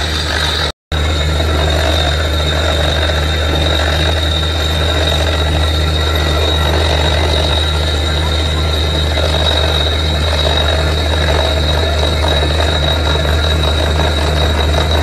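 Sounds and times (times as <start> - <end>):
drilling rig engine hum: 0.0 - 15.0
high whine: 0.0 - 15.0.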